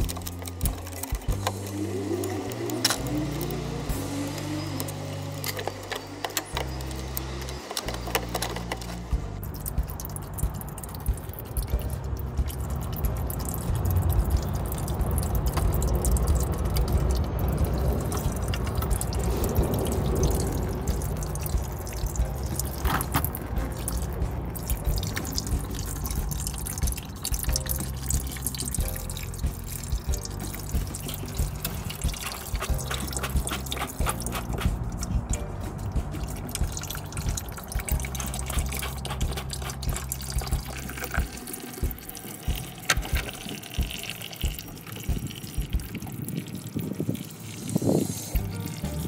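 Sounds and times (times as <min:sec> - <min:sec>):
liquid dripping and trickling: 0:00.0 - 0:49.0.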